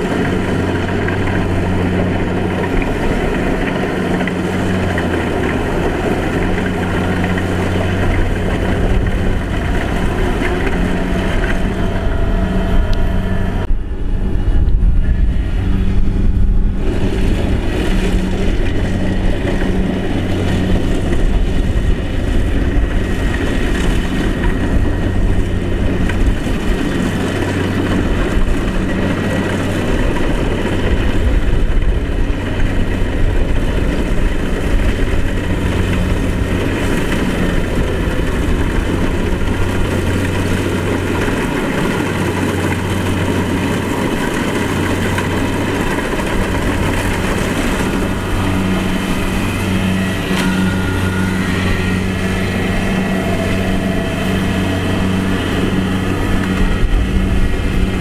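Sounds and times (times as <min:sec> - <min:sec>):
combine harvester engine drone: 0:00.0 - 0:58.0
mechanical rush of threshing: 0:00.0 - 0:58.0.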